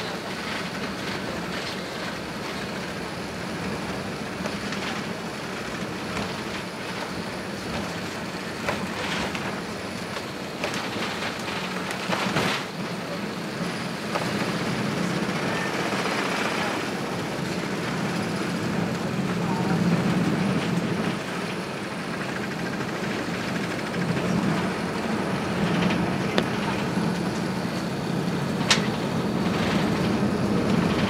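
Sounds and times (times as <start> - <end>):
aircraft cabin engine rumble: 0.0 - 31.0.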